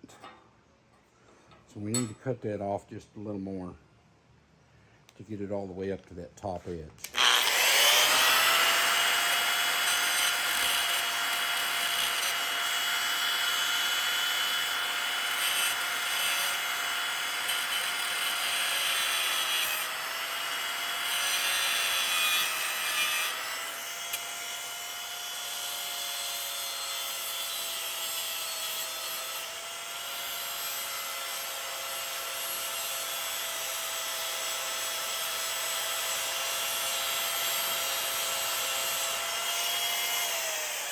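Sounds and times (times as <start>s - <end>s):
angle grinder cutting metal: 7.0s - 40.9s.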